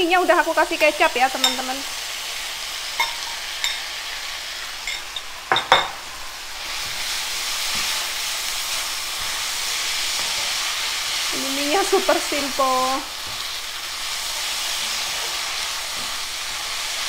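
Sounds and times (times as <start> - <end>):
noodles sizzling in a frying pan: 0.0 - 17.0.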